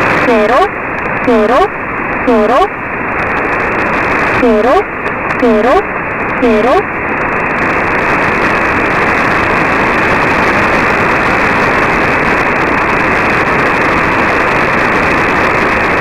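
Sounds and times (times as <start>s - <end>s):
shortwave radio static hiss: 0.0s - 16.0s.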